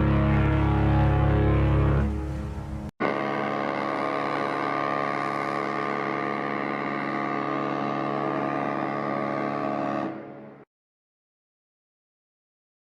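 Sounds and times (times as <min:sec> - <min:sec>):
ship's horn blast: 0:00.0 - 0:10.7.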